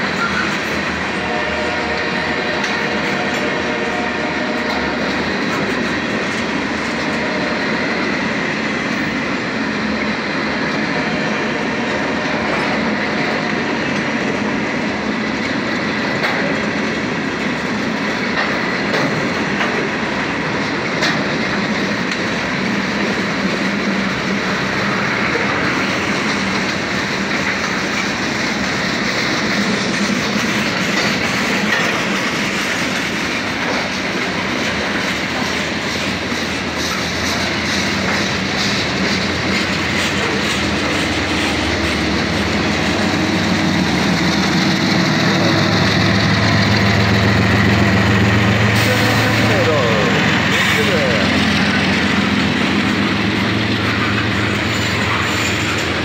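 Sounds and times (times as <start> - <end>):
freight car wheels rolling on rail: 0.0 - 56.0.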